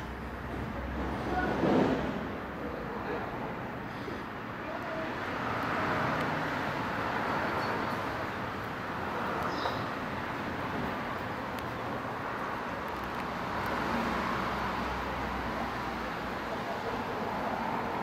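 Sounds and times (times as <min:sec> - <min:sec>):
distant road traffic: 0:00.0 - 0:18.0.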